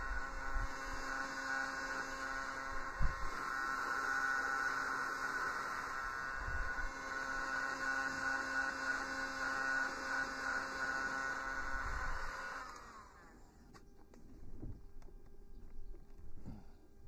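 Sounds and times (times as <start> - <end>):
heat gun fan whining: 0.0 - 17.0.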